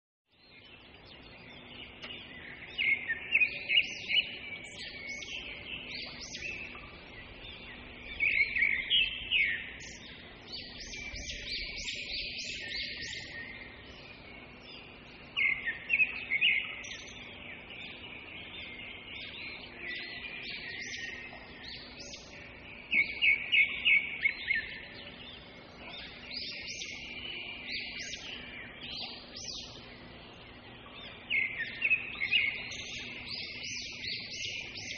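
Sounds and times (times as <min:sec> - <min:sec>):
faint steady hum: 0:00.4 - 0:34.9.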